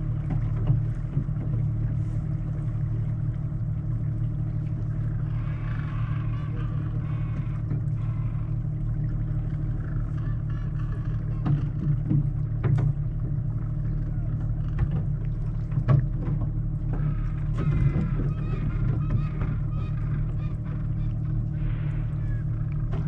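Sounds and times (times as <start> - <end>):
boat engine low hum: 0.0 - 23.0.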